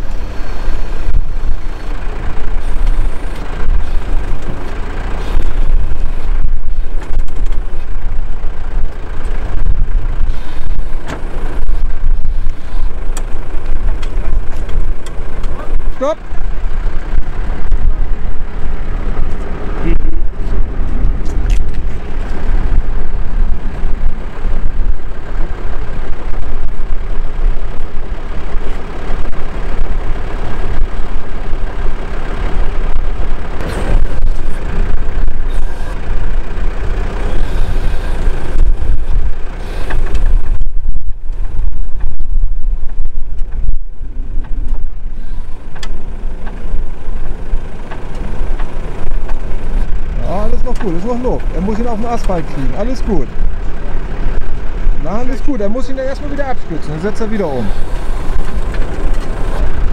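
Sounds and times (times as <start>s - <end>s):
truck engine rumbling: 0.0s - 59.9s.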